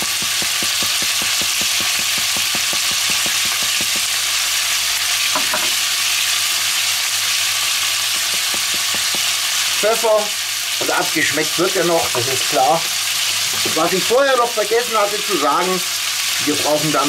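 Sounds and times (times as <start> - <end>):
meat sizzling with crackling pops: 0.0 - 17.0.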